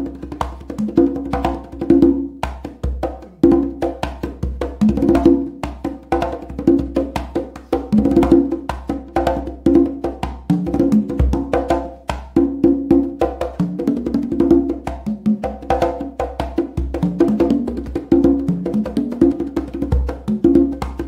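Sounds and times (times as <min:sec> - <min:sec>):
instrumental music with busy percussion: 0:00.0 - 0:21.0.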